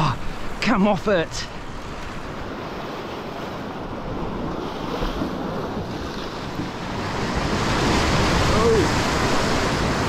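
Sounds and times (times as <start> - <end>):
surf breaking over rocks: 0.4 - 10.0
wind buffeting microphone: 1.6 - 10.0.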